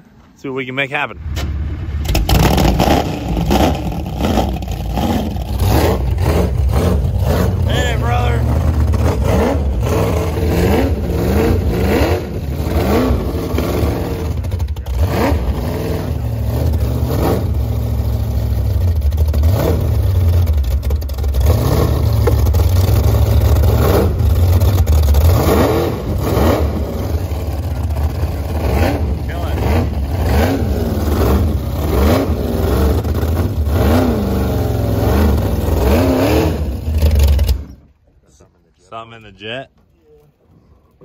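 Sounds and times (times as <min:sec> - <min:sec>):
boat engine revving: 0:01.2 - 0:37.8.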